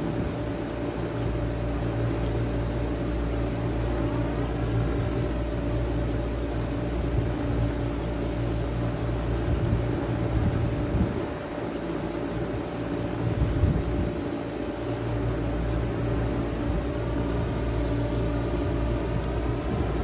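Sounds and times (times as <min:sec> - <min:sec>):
heat pump humming: 0:00.0 - 0:20.0.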